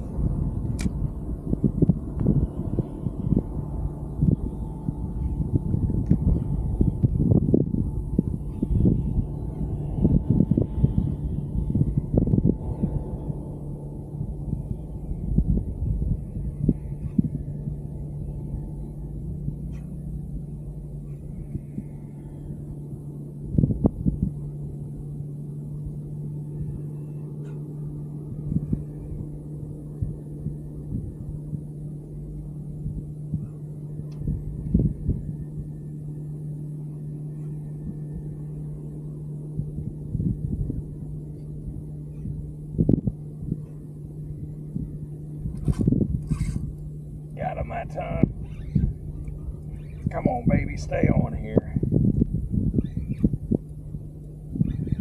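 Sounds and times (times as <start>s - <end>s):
low electric hum: 0.0s - 55.0s
wind gusting against microphone: 0.0s - 55.0s.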